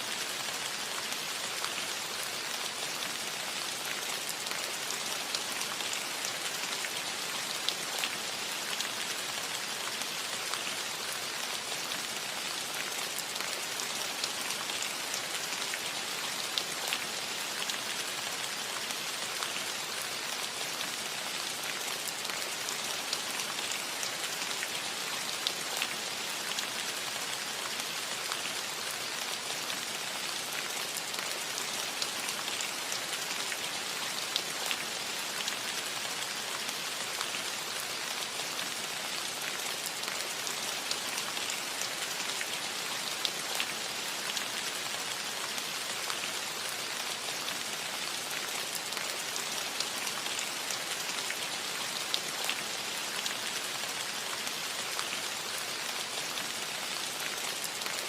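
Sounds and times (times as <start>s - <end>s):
light rain on a metal roof: 0.0s - 58.0s.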